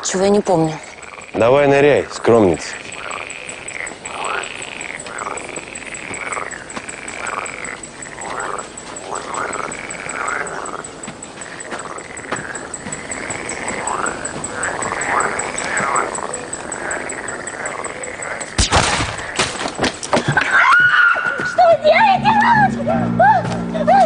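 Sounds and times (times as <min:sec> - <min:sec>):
cricket chirping: 0:00.0 - 0:20.6
frogs croaking: 0:00.0 - 0:23.2.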